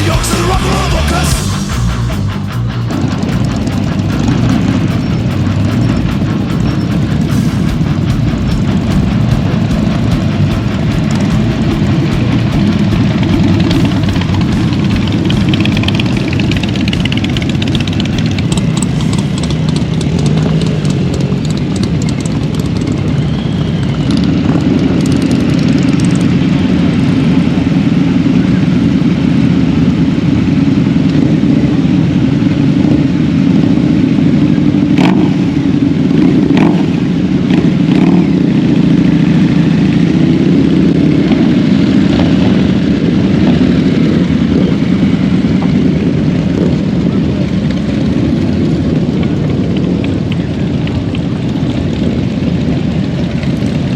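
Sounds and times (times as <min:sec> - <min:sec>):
motorcycle engines running: 0:00.0 - 0:53.9.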